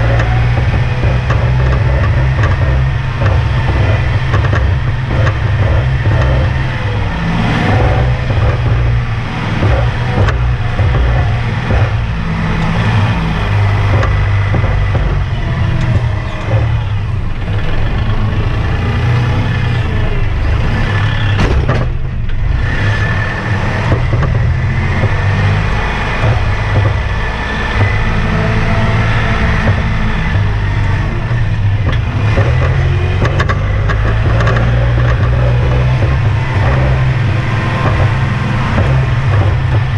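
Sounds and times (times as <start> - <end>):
knocks and rattles: 0.0 - 39.9
tractor diesel engine running: 0.0 - 39.9.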